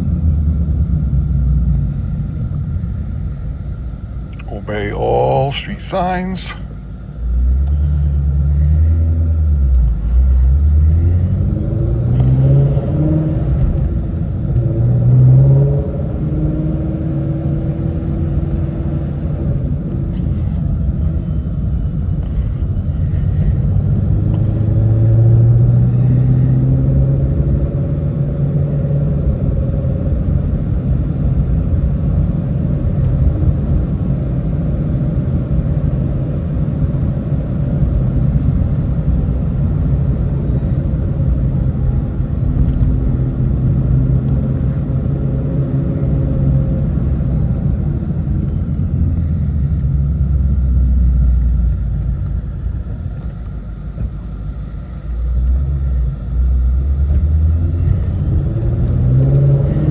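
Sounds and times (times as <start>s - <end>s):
car engine rumble from inside: 0.0s - 59.9s.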